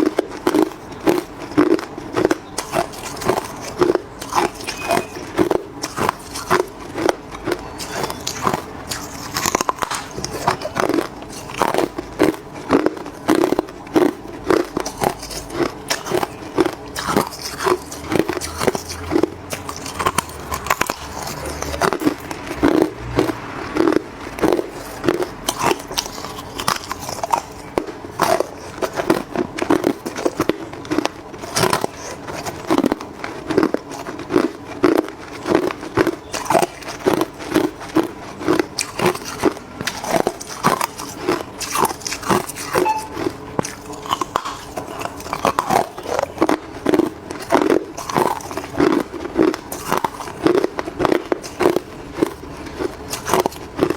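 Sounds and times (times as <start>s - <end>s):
ice being chewed crunching: 0.0s - 53.9s.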